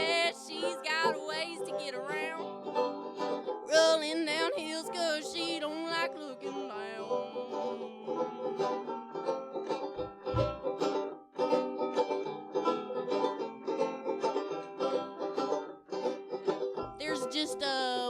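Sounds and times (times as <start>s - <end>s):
plucked string instrument: 0.0s - 18.0s.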